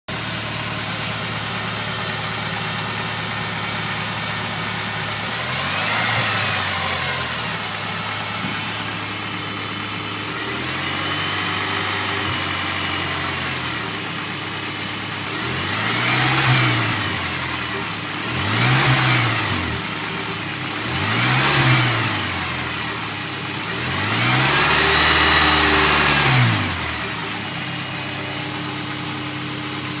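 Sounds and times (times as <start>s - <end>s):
car engine idling: 0.1s - 30.0s
engine revving: 0.1s - 30.0s.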